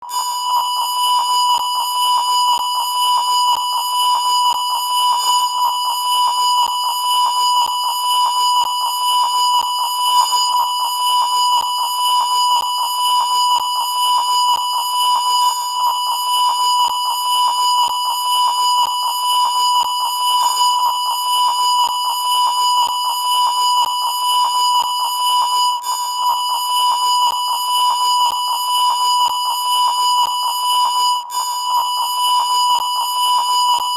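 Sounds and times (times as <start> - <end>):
steady test tone beep: 0.0 - 33.9.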